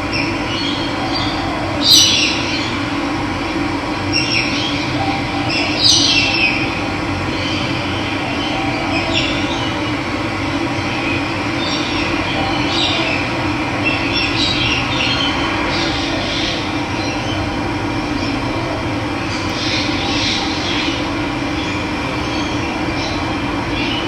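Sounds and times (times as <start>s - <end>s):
birds chirping: 0.0s - 2.9s, 4.0s - 24.0s.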